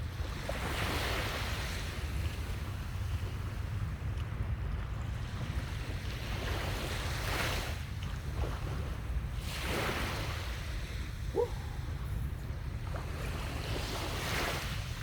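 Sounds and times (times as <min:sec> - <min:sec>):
sea waves on a sandy beach: 0:00.0 - 0:15.0
wind rumble on microphone: 0:00.0 - 0:15.0.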